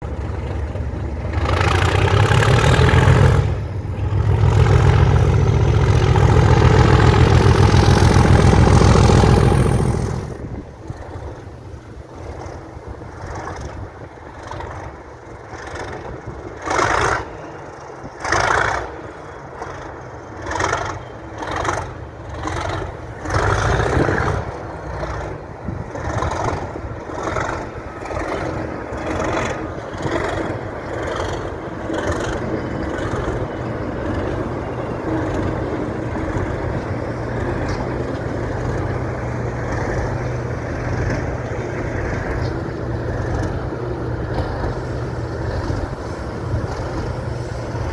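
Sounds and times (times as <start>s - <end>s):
diesel locomotive engine working hard: 0.0s - 47.9s.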